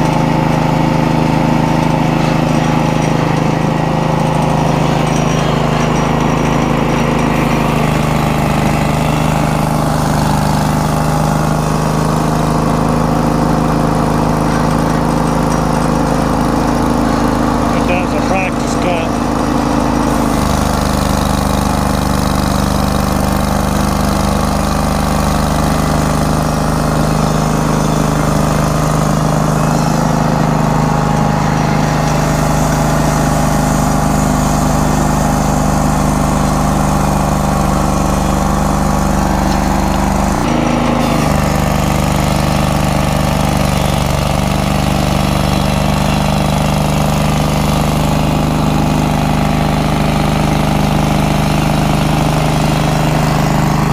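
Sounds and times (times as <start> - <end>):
sawmill engine humming: 0.0 - 53.9.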